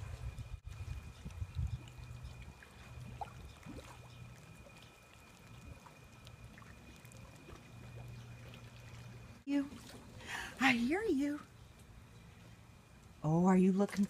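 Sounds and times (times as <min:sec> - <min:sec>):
low hum: 0:00.0 - 0:14.0
water lapping against wall: 0:00.0 - 0:14.0.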